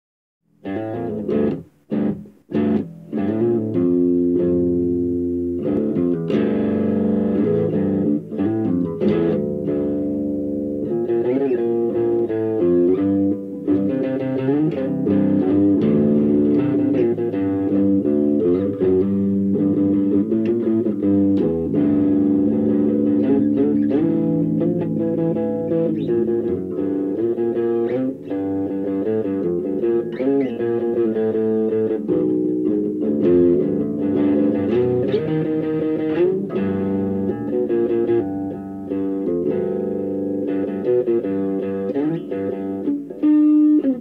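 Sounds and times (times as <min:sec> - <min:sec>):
electric bass guitar: 0:00.5 - 0:44.0.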